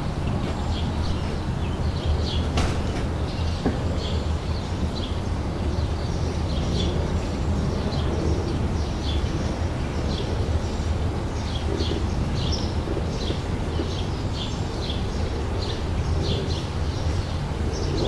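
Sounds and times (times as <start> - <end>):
steady low rumble: 0.0 - 17.8
small birds chirping: 0.0 - 18.0.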